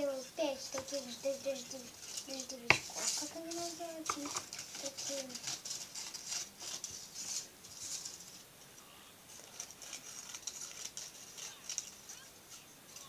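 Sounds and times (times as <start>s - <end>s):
aluminium foil rustling: 0.0s - 13.0s.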